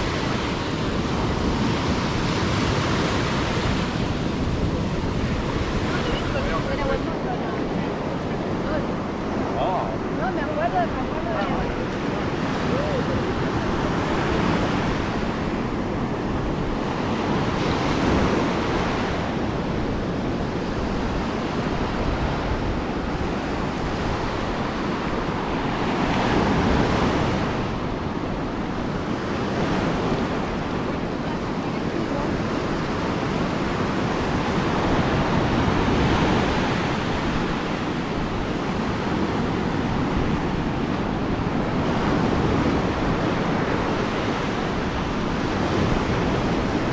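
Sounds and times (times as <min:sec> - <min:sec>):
ocean surf breaking on beach: 0:00.0 - 0:46.9.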